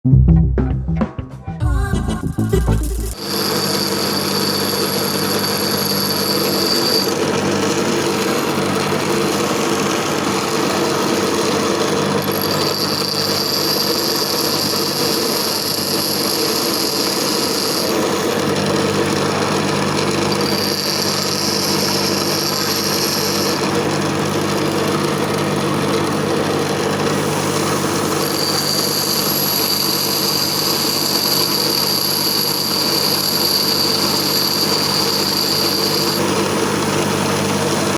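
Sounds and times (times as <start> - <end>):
grinder motor hum: 2.3 - 37.9
high-pitched grinding whine: 2.4 - 37.9.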